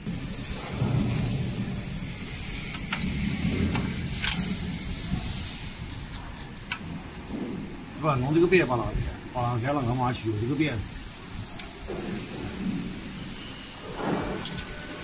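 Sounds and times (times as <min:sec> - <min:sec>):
machinery hum with hiss: 0:00.0 - 0:15.0.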